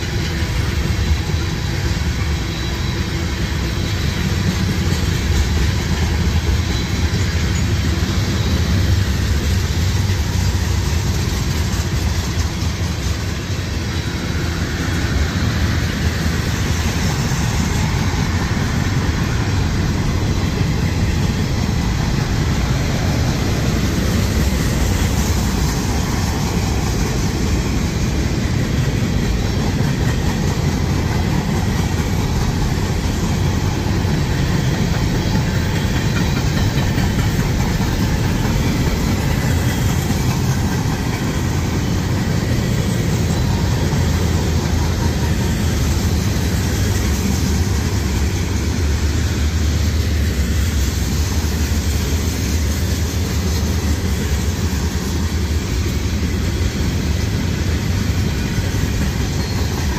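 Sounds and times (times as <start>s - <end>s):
steel train wheels rumbling on rail: 0.0s - 59.9s.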